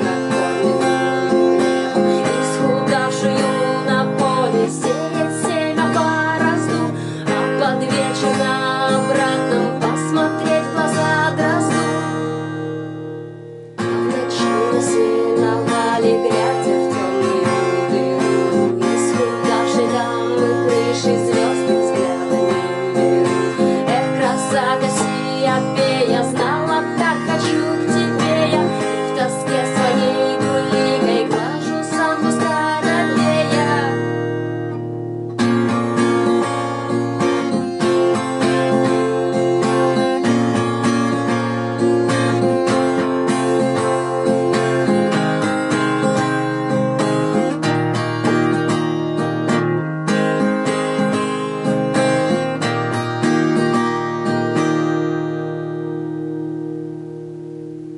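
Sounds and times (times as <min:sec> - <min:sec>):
strummed acoustic guitar music: 0:00.0 - 0:57.9.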